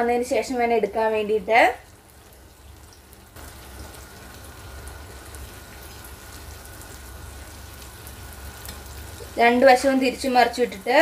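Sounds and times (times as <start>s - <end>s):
batter sizzling in hot oil: 0.2s - 11.0s.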